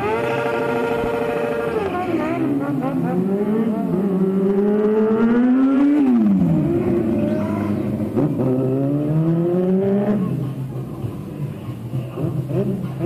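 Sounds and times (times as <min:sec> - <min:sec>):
motorcycle engine revving: 0:00.0 - 0:11.2, 0:12.0 - 0:13.0.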